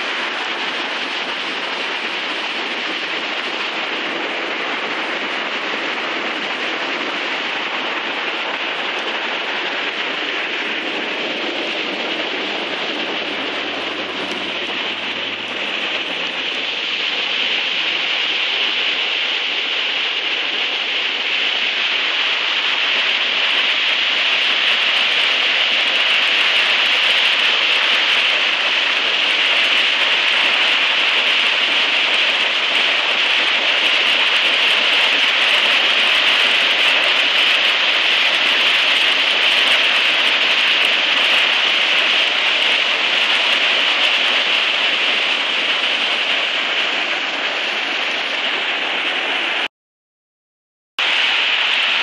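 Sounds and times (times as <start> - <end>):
floodwater rushing: 0.0 - 49.7, 51.0 - 52.0.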